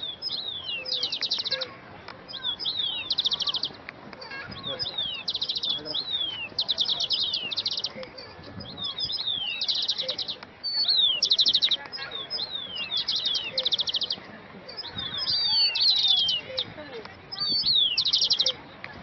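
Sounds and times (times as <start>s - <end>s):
songbirds whistling and trilling: 0.0s - 19.0s.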